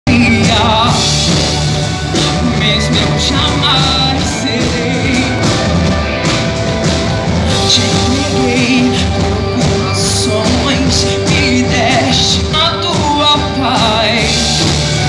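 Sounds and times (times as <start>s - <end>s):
rock-pop band playing: 0.0s - 15.0s.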